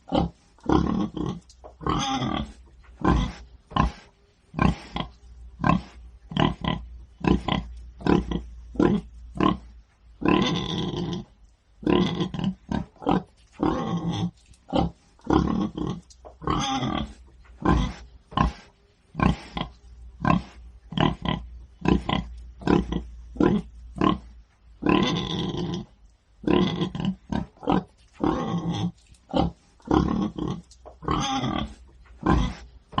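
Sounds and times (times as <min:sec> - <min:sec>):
pig grunting: 0:00.0 - 0:33.0.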